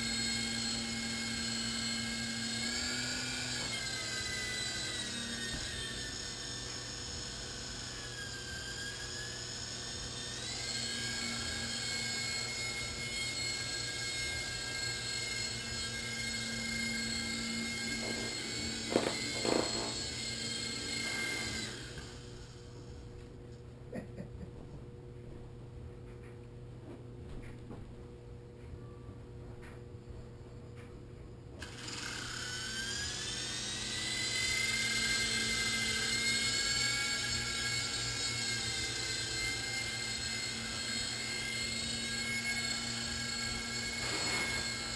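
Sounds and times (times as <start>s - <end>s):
toy helicopter rotor whirring: 0.0s - 23.2s, 31.6s - 44.9s.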